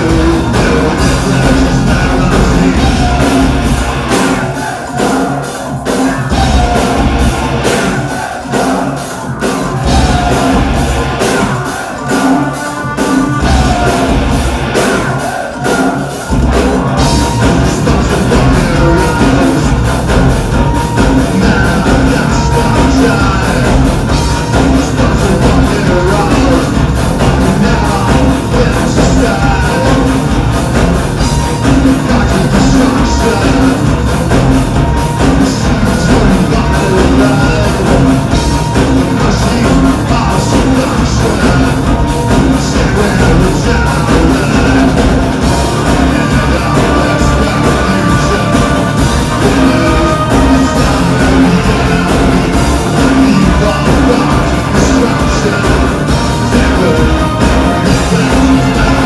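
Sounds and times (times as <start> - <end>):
metal band playing live: 0.0 - 59.0
person singing: 0.0 - 59.0.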